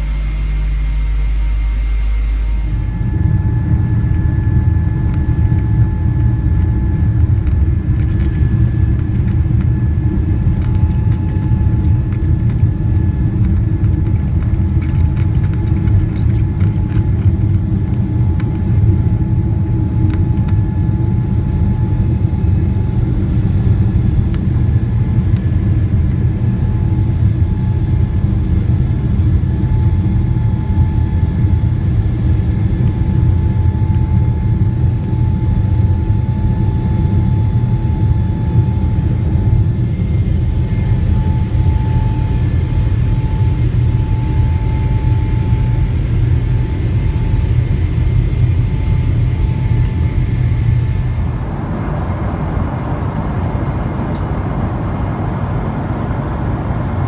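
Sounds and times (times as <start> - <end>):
faint engine whine: 0.0 - 57.0
jet engine deep rumble: 0.0 - 57.0.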